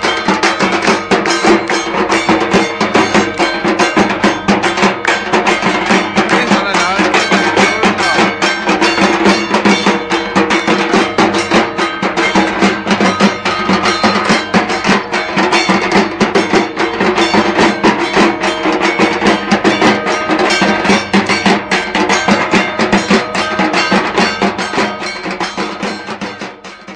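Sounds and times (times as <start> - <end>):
music with fast percussion beat: 0.0 - 26.9.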